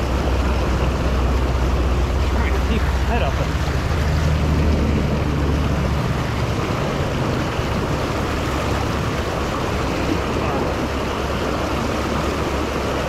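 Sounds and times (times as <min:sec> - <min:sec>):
flowing canal water: 0:00.0 - 0:13.0
wind rumble on microphone: 0:00.0 - 0:13.0.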